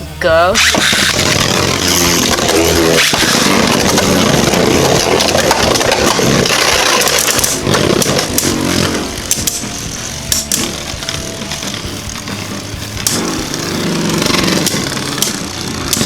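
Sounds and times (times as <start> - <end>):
spinning tops whirring and clashing: 0.6 - 16.0.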